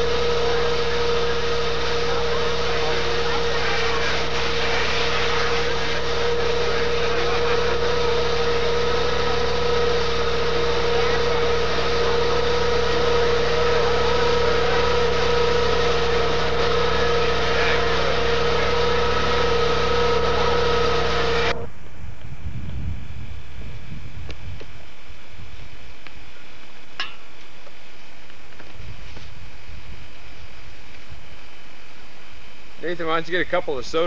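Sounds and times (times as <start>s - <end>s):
mechanical hum with whine: 0.0s - 34.0s
noisy background: 0.0s - 34.0s.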